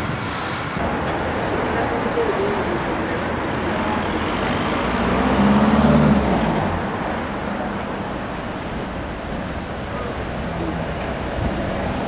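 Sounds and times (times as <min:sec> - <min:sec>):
road noise: 0:00.0 - 0:12.0
vehicle engine passing: 0:00.8 - 0:12.0.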